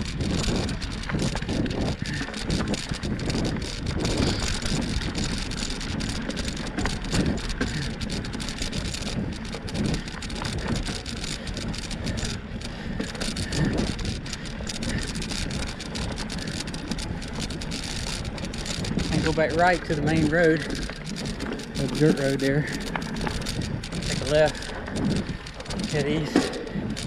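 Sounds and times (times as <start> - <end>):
bike tyres crackling on dirt: 0.0 - 27.0
wind buffeting microphone: 0.0 - 27.0.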